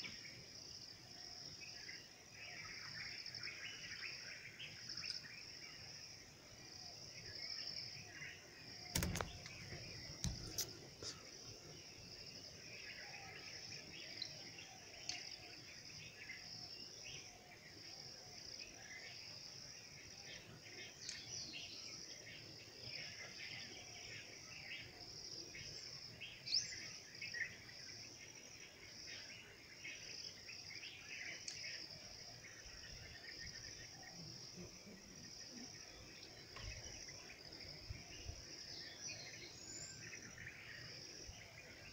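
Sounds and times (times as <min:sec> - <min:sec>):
insect chorus: 0:00.0 - 0:41.9.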